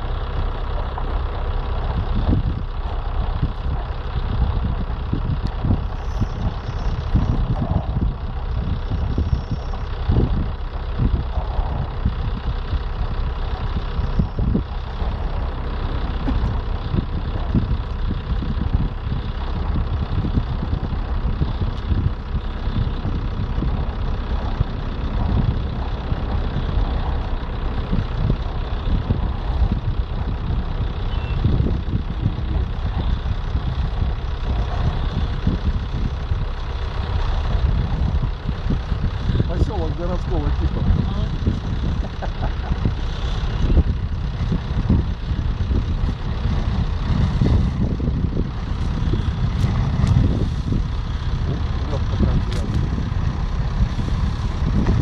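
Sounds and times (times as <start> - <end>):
ship breaking through ice rumble: 0.0 - 55.0.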